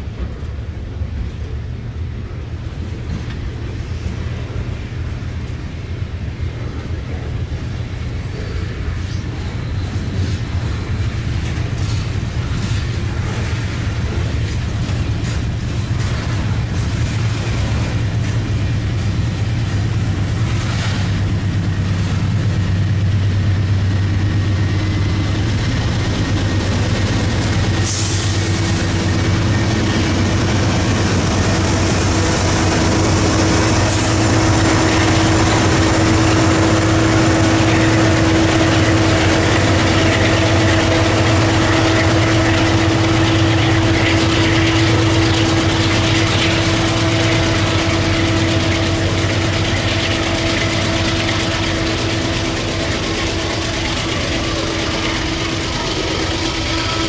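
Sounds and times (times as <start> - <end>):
diesel locomotive hum: 0.0 - 57.0
freight train wheels on rails: 0.0 - 57.0.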